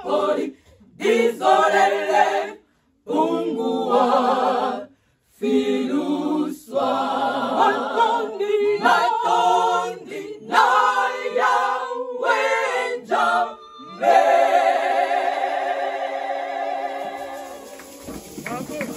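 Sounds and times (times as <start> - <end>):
women's choir singing a cappella: 0.0 - 18.1.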